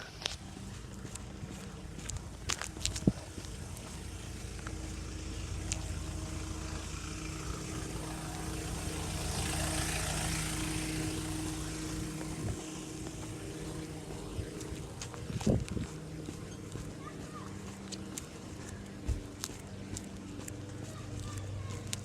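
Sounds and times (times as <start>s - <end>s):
passing vehicle engine hum: 0.0s - 22.0s.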